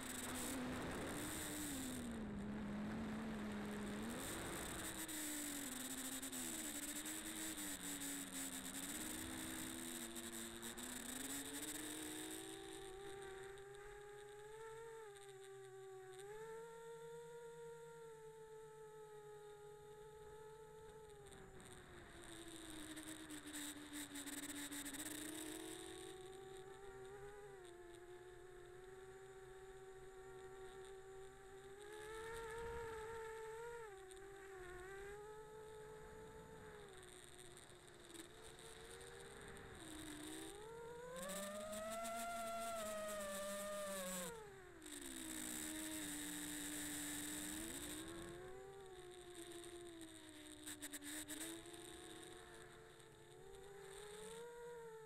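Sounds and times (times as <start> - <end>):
crackling hiss: 0.0 - 55.0
high electrical whine: 0.0 - 55.0
quadcopter motors buzzing whine: 0.0 - 55.0.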